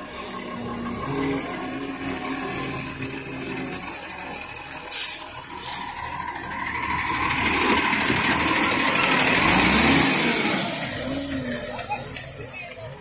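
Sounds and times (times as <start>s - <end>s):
truck diesel engine passing: 0.0s - 13.0s.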